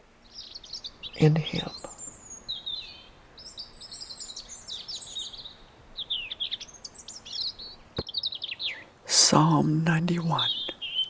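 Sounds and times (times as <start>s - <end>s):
birds chirping: 0.0s - 11.0s
faint background hiss: 0.0s - 11.0s.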